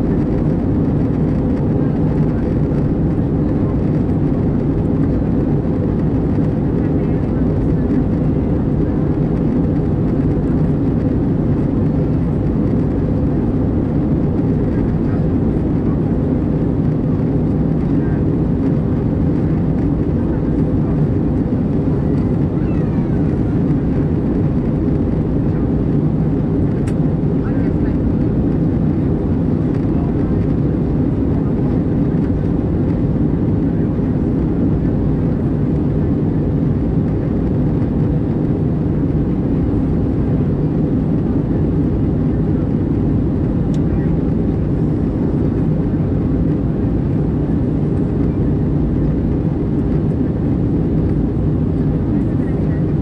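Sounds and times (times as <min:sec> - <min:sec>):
aircraft engines droning: 0:00.0 - 0:53.0.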